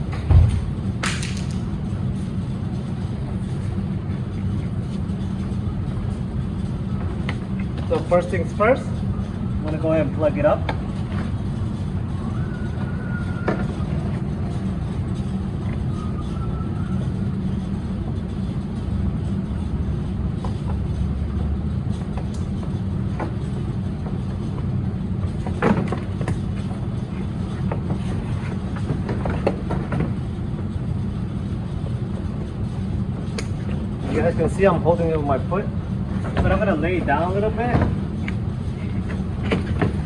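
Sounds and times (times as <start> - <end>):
low background rumble: 0.0 - 40.0.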